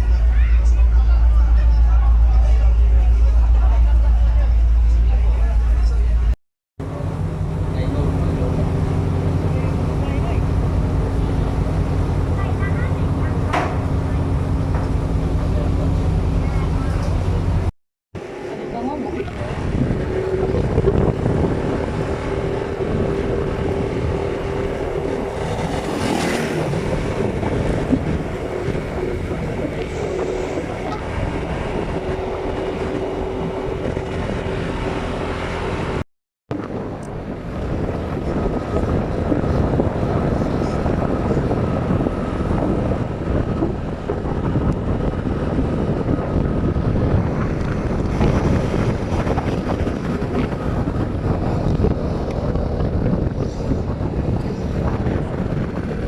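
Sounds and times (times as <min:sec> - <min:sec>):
vehicle engine drone: 0:00.0 - 0:56.0
wind rushing on microphone: 0:06.9 - 0:56.0.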